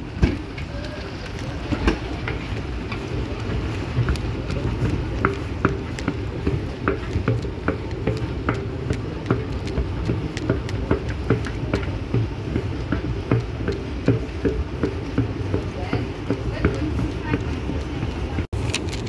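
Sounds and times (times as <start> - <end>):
footsteps on metal treads: 0.0 - 19.0
low steady rumble: 0.0 - 19.0.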